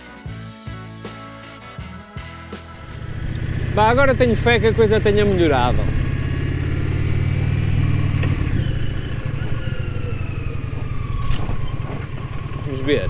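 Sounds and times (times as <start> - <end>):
motorcycle engine running: 2.5 - 13.0.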